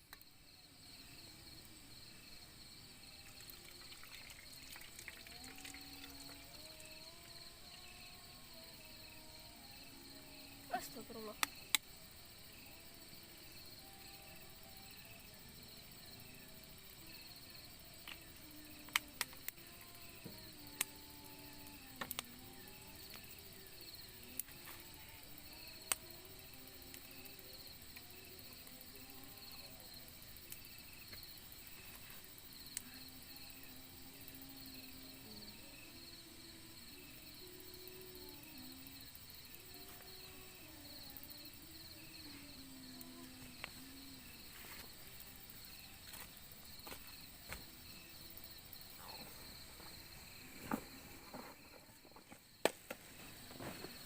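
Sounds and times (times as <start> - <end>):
crickets and insects chirping: 0.0 - 54.0.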